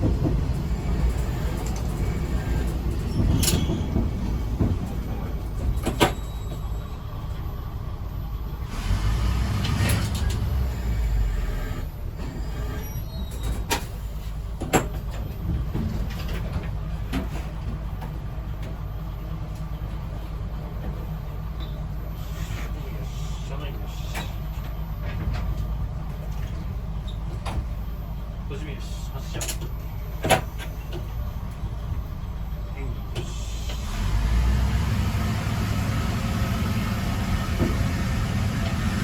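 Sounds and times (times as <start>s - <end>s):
railcar engine rumble: 0.0s - 39.0s.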